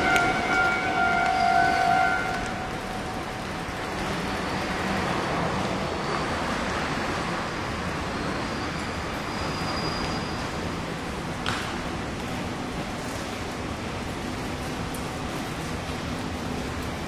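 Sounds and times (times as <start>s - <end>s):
urban traffic noise: 0.0s - 17.0s.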